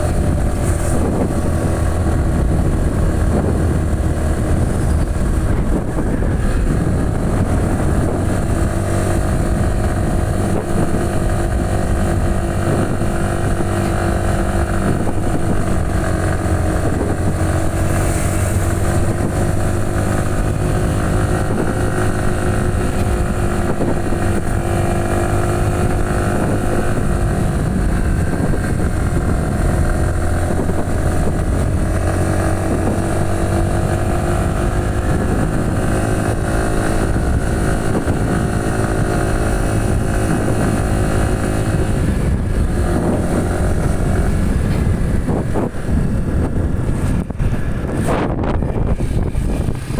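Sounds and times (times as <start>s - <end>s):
motorcycle engine running: 0.0s - 49.9s
wind on microphone: 0.0s - 49.9s.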